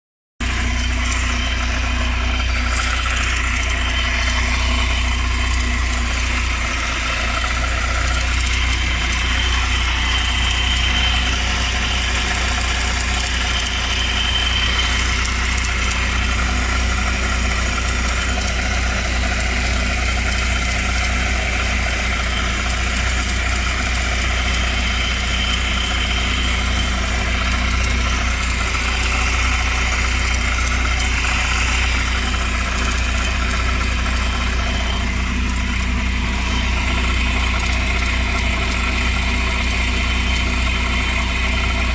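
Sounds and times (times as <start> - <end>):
car engine low drone: 0.4 - 41.9
high whine: 0.4 - 41.9.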